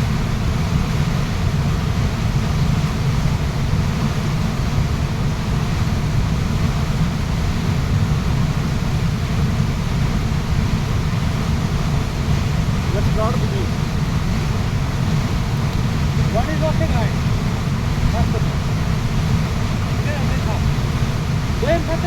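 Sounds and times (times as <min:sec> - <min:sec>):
waterfall rushing: 0:00.1 - 0:22.0.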